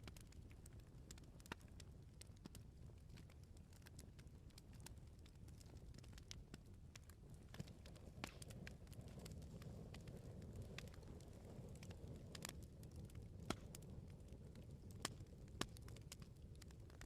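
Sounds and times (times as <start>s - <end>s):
bonfire crackling and popping: 0.0s - 17.0s
low rumble of flames: 0.0s - 17.0s.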